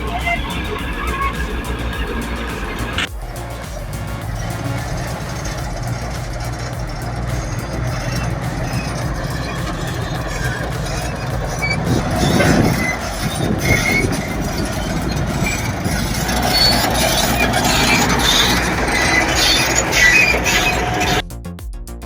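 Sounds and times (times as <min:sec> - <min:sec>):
diesel engine under load: 0:00.0 - 0:21.2
high metallic squeals: 0:00.0 - 0:21.2
music: 0:00.0 - 0:22.0.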